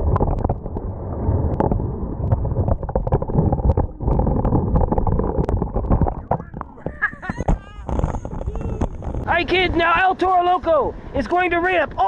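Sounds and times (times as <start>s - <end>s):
underwater rumble of moving water: 0.0s - 12.0s.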